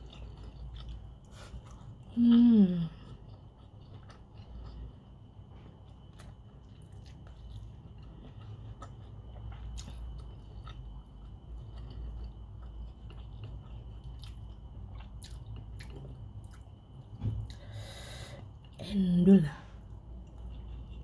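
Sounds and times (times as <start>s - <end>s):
person chewing food: 0.0s - 18.8s, 19.7s - 21.0s
low steady hum: 0.0s - 21.0s.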